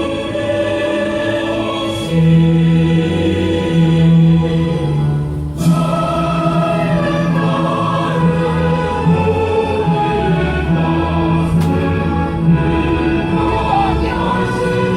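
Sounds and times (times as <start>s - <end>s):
choir singing long notes: 0.0s - 14.9s.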